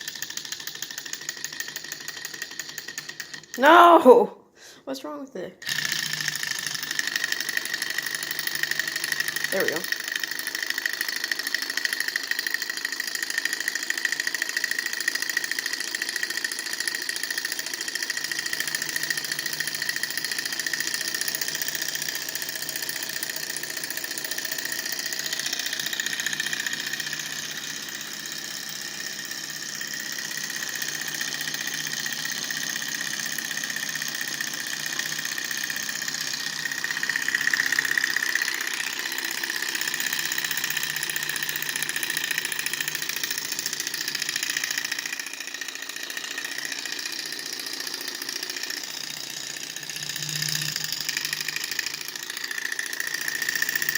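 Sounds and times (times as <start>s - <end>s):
model engine mechanical clatter: 0.0s - 3.6s, 5.6s - 53.9s.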